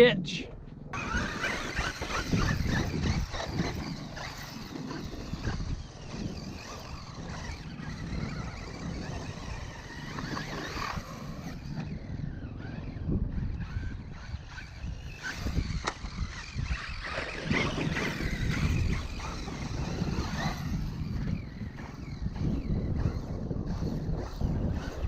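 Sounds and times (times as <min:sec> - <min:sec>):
electric motor whining: 0:00.9 - 0:25.0.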